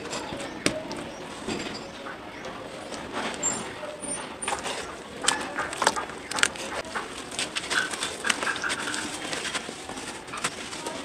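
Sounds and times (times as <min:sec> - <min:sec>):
dirt crumbling crackles: 0:00.0 - 0:11.0.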